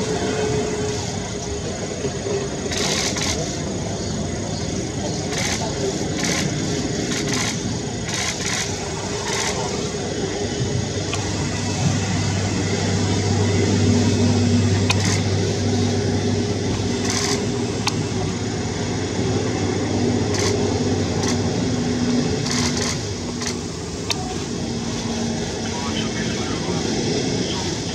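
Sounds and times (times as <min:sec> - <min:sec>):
low engine rumble: 0:00.0 - 0:27.9.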